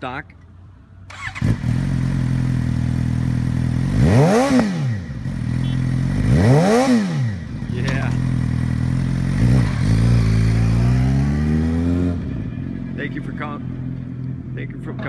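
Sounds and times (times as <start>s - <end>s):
motorcycle engine idling and revving: 0.5s - 15.0s.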